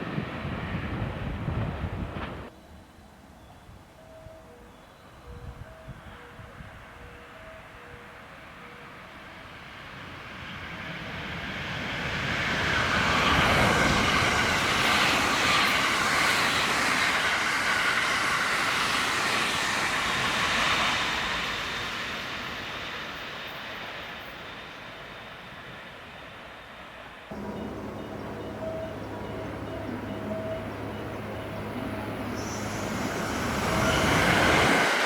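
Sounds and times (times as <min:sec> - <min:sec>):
train passing at speed: 0:00.0 - 0:02.5, 0:08.2 - 0:35.0.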